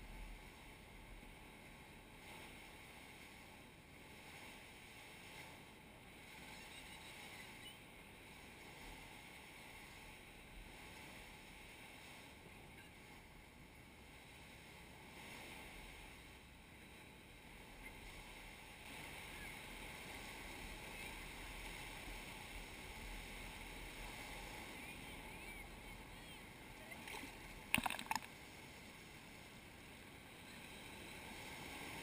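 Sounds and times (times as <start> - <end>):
faint surf breaking on beach: 0.0 - 16.8, 17.4 - 32.0.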